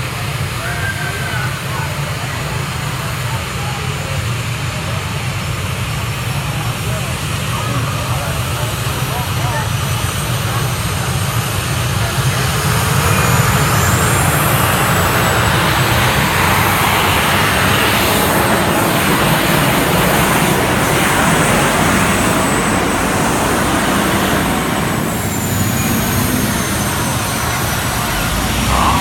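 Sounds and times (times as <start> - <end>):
tractor engine running flat out: 0.0 - 29.0.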